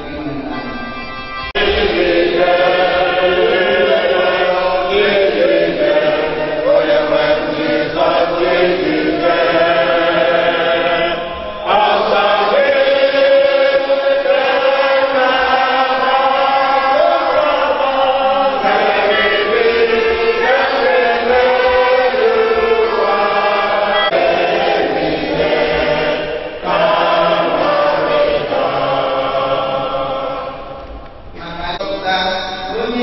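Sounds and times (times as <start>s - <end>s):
group singing a hymn: 1.5s - 31.2s.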